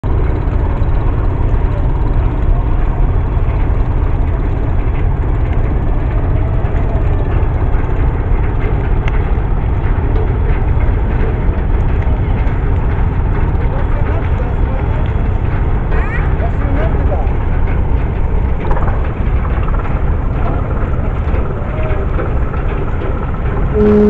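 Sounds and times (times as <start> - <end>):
boat engines rumbling: 0.0 - 24.0.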